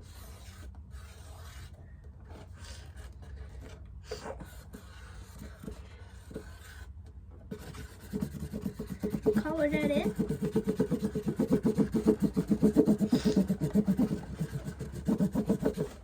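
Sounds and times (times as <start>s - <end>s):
marker scratching on cardboard: 0.0s - 16.0s.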